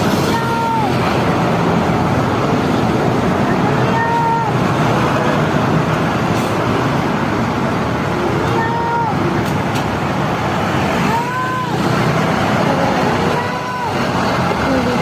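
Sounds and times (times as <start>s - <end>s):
engines and traffic din: 0.0s - 15.0s.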